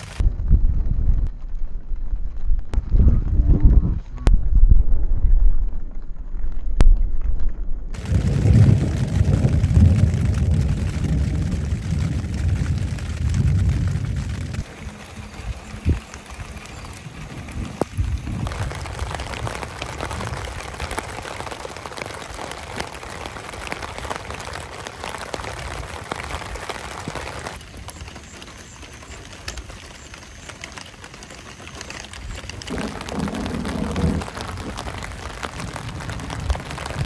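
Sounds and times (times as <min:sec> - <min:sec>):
rain on tent and window: 0:00.0 - 0:04.2, 0:07.9 - 0:37.0
sharp raindrop taps: 0:05.7 - 0:37.0.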